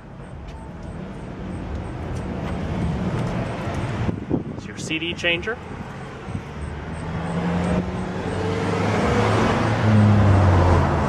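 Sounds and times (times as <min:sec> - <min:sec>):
vehicle engine and tyre noise: 0:00.0 - 0:11.0.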